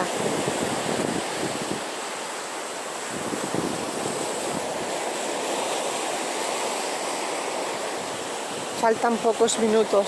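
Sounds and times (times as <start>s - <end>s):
waves breaking on beach: 0.0s - 10.0s.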